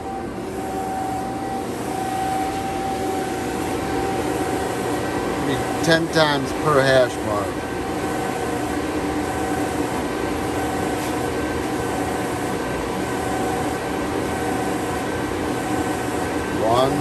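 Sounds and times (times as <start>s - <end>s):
surface grinder mechanical hum: 0.0s - 17.0s.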